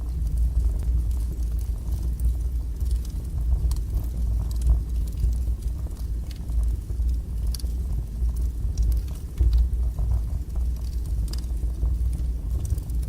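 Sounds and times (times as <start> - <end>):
fire crackling and popping: 0.0 - 13.0
fire rumbling: 0.0 - 13.0.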